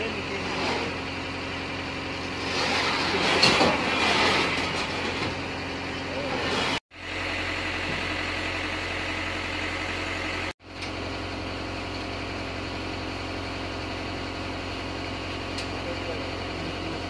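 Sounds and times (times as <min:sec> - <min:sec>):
diesel engine idling: 0:00.0 - 0:03.0, 0:04.9 - 0:17.0.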